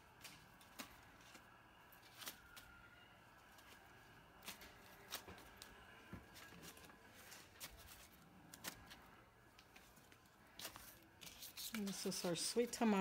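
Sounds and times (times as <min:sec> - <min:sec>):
corn husks rustling and crackling: 0:00.0 - 0:02.8, 0:03.4 - 0:13.0.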